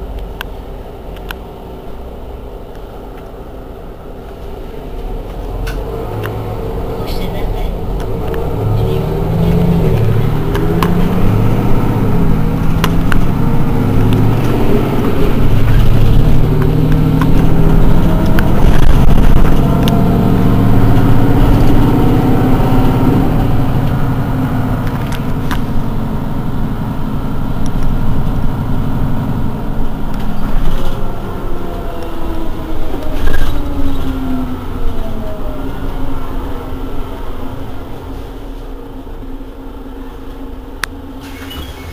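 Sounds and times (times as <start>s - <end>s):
diesel bus engine rumbling: 0.0s - 41.9s.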